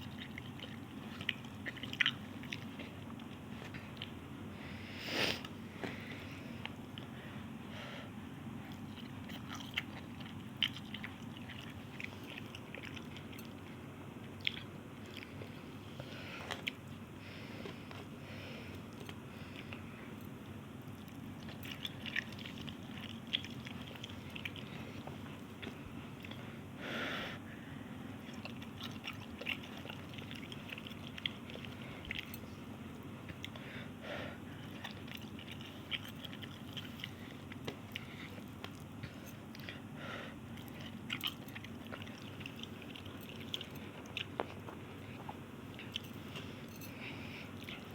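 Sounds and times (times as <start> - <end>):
person chewing noodles: 0.0 - 7.2, 8.6 - 26.8, 28.0 - 47.9
steady low hum: 0.0 - 47.9.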